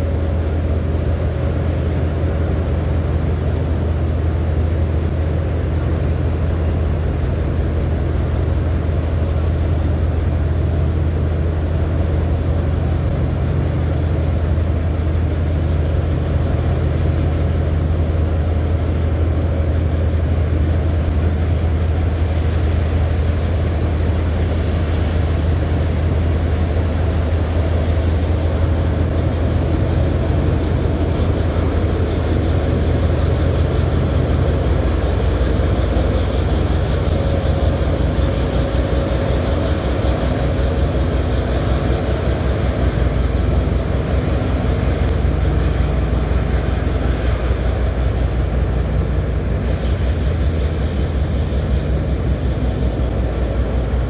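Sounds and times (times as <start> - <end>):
ship engine low drone: 0.0 - 54.0.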